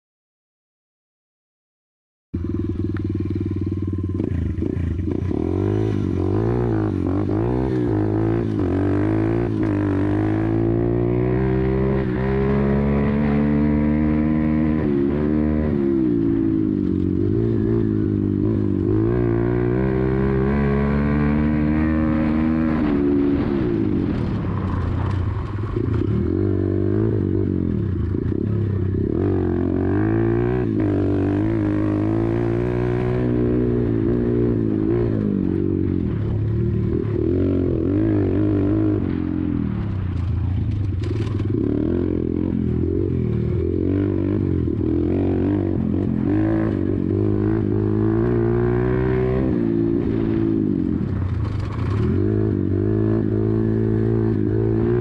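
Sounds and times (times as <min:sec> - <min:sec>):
motorbike engine revving: 0:02.4 - 0:55.0.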